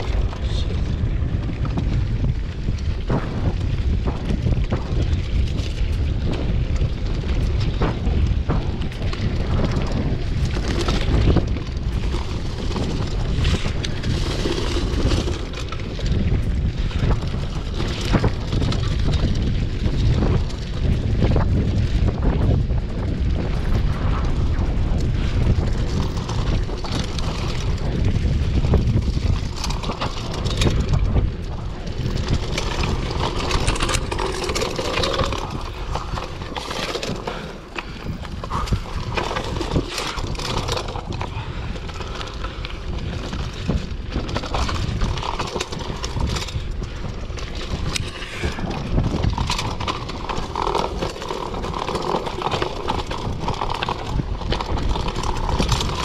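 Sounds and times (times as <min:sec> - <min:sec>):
bike clattering over bumps: 0:00.0 - 0:56.0
bike tyres rolling on dirt: 0:00.0 - 0:56.0
wind buffeting microphone: 0:00.0 - 0:56.0.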